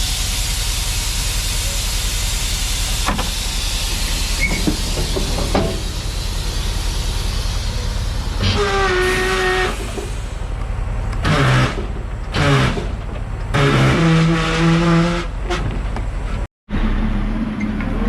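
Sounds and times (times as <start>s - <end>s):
short pitched whines: 0.0s - 15.6s
heavy diesel machinery rumble: 0.0s - 18.0s.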